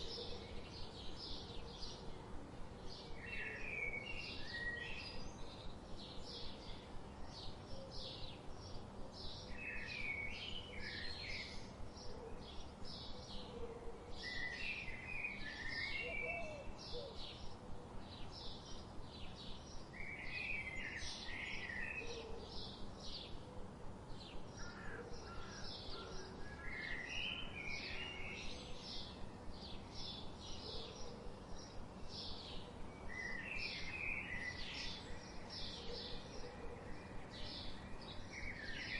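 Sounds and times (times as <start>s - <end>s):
soft background hiss: 0.0s - 38.9s.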